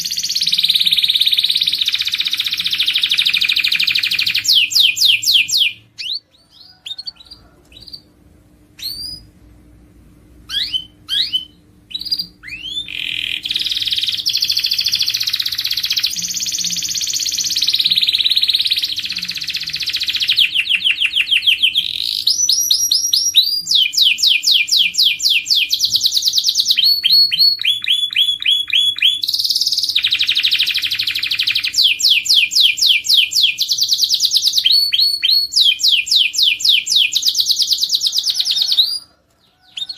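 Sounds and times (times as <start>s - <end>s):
canary singing: 0.0s - 9.4s, 10.4s - 39.9s.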